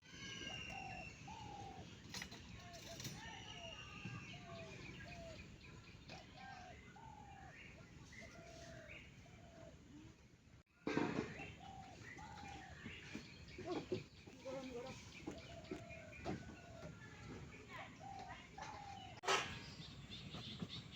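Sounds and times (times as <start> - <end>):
birds calling: 0.0 - 9.8, 11.1 - 20.9.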